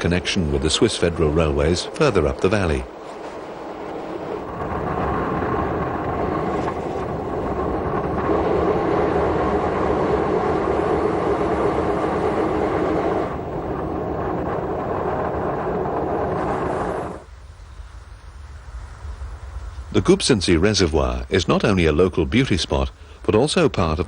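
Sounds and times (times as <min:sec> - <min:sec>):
electric train rumbling: 0:00.0 - 0:24.0
train hum: 0:00.0 - 0:24.0.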